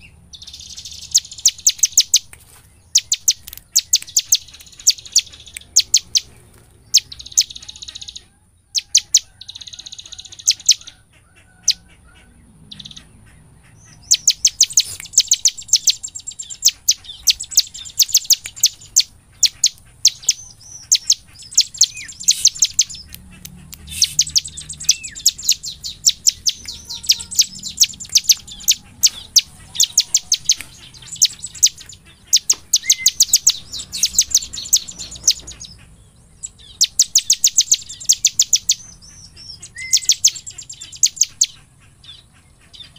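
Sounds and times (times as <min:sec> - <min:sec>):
bird singing rapid high chips: 0:00.0 - 0:11.9, 0:12.6 - 0:42.9.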